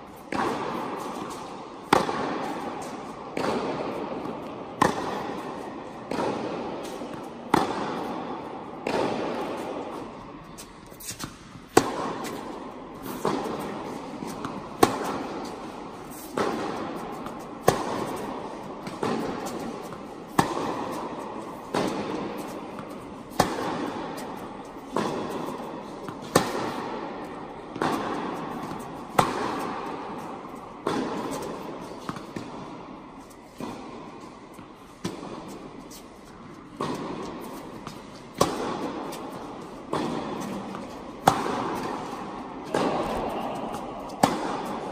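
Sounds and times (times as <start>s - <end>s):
tennis ball bouncing: 0.1s - 44.9s
tennis ball hit with rackets: 0.1s - 44.9s.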